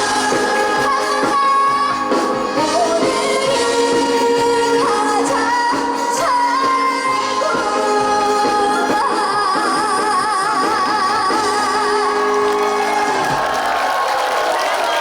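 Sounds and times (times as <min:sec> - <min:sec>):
girl singing: 0:00.0 - 0:12.6
backing track music: 0:00.0 - 0:15.0.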